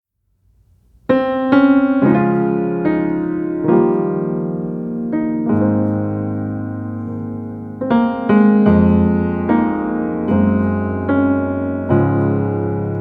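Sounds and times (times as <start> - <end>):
slow piano music: 0.8 - 13.0.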